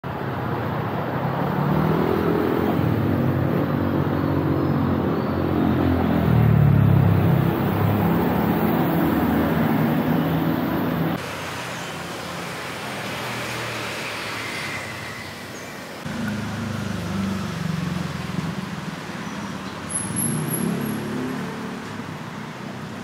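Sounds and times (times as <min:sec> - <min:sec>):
traffic hum: 0:00.0 - 0:23.0.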